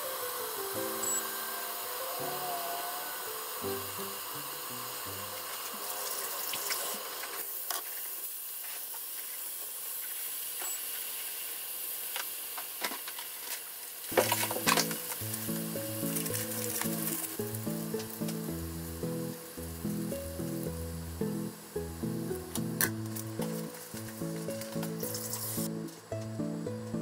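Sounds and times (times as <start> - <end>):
meatballs sizzling in frying pan: 0.0 - 12.8, 13.7 - 25.9.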